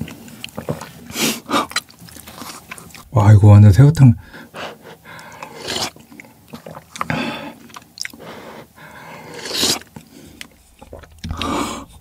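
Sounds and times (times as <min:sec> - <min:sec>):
slurping and chewing noodles: 0:00.0 - 0:03.1, 0:04.7 - 0:12.0.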